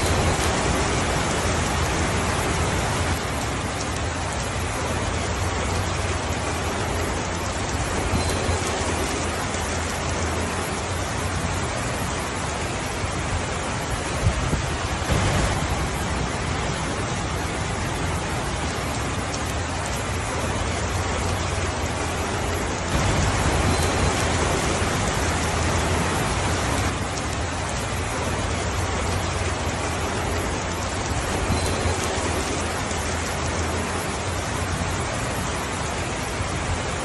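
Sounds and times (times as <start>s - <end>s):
rain on a roof: 0.0s - 37.0s.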